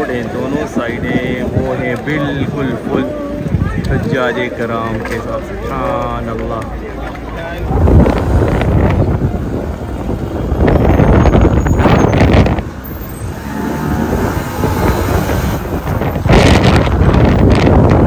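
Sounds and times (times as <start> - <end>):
busy street noise: 0.0 - 18.0
wind rumbling on microphone: 0.0 - 18.0.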